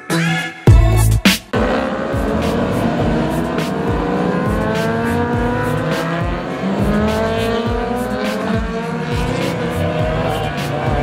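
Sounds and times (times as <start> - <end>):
music beat thumping: 0.1 - 11.0
motorbike engines revving: 1.5 - 11.0.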